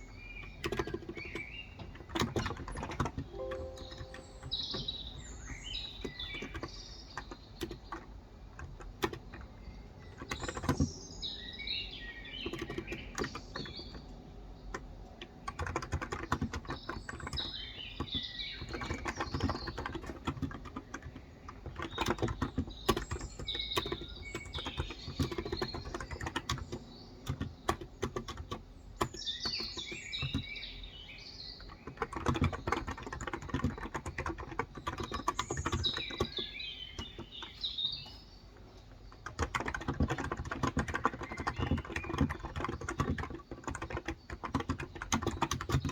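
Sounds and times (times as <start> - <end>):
typing on a keyboard: 0.0 - 30.8, 31.4 - 38.2, 38.9 - 45.9
songbirds chirping: 0.0 - 45.9.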